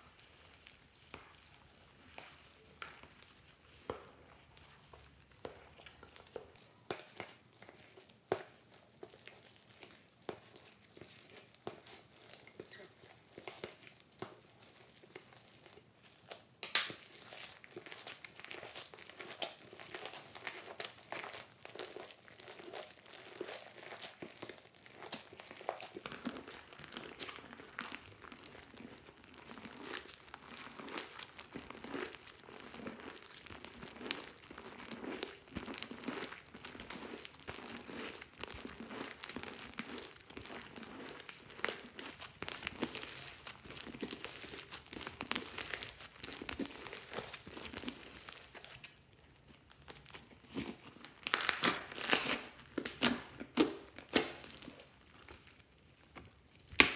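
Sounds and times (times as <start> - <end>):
slime squishing and crackling: 0.0 - 56.9.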